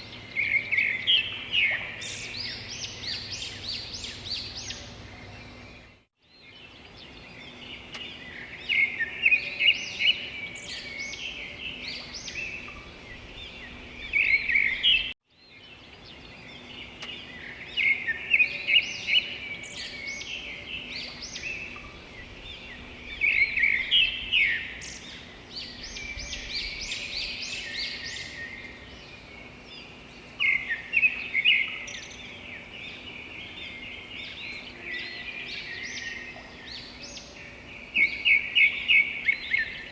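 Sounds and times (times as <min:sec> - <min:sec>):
outdoor background noise: 0:00.0 - 0:39.9
songbirds chirping and singing: 0:00.0 - 0:39.9.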